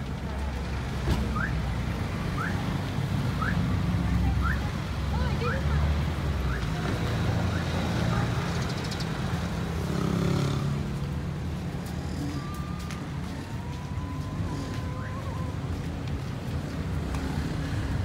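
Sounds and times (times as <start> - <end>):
vehicle traffic: 0.0 - 18.0.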